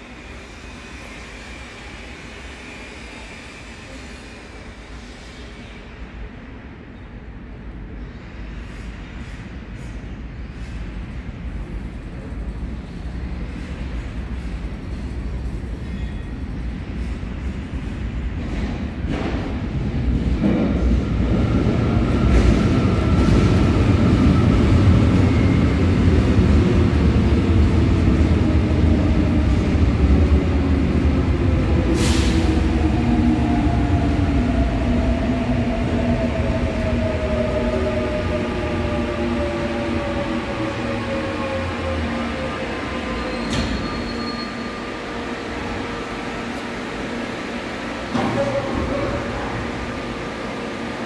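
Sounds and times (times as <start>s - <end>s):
train wheels rumbling on rails: 7.6s - 51.0s.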